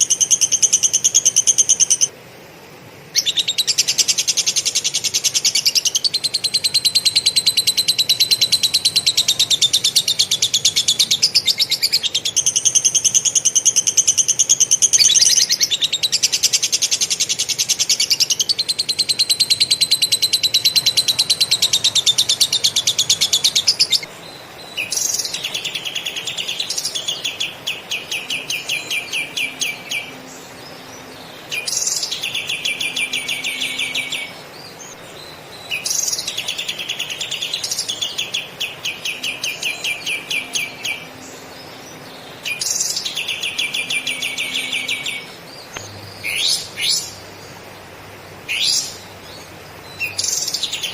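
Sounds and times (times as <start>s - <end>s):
bird singing fast rolling trills: 0.0s - 50.9s.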